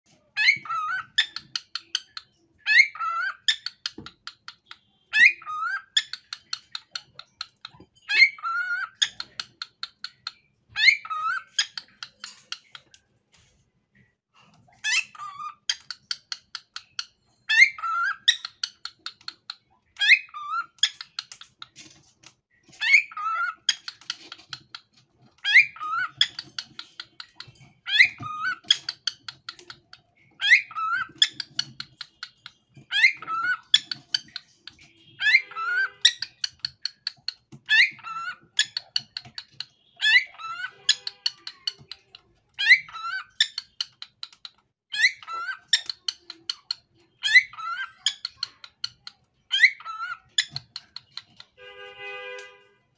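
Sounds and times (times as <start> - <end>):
cockatiel whistling and chattering: 0.2 - 13.0, 14.4 - 21.7, 22.7 - 51.6.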